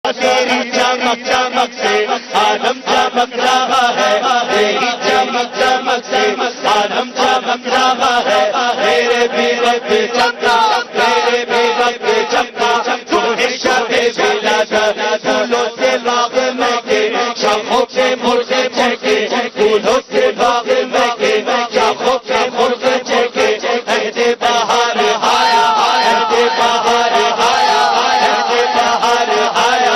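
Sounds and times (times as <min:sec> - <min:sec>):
voices chanting devotional song: 0:00.1 - 0:29.9.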